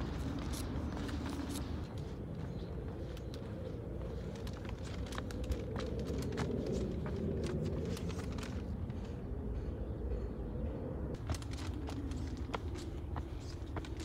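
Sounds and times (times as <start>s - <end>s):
footsteps on pavement: 0.0s - 9.7s, 11.2s - 14.0s
low outdoor rumble: 0.0s - 14.0s
steady background hum: 0.0s - 14.0s.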